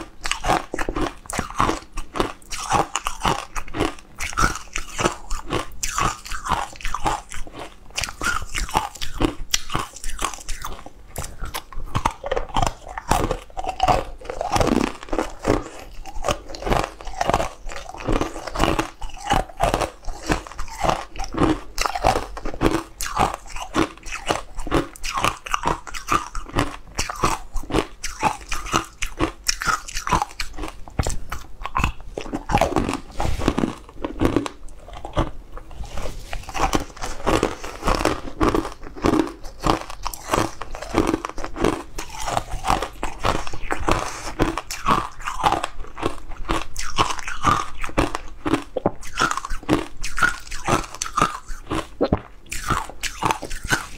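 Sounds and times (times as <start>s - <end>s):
crunching and chewing dry food: 0.0s - 53.9s.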